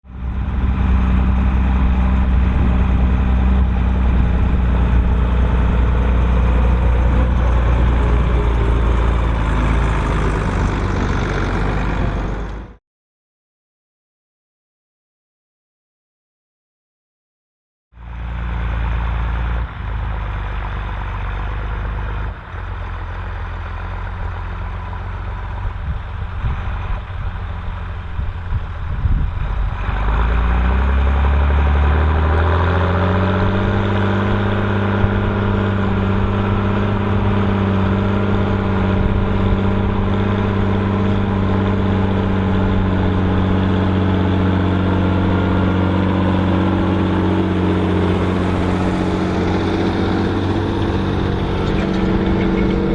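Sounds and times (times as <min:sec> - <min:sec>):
tractor diesel engine revving: 0:00.0 - 0:12.8, 0:18.0 - 0:52.9.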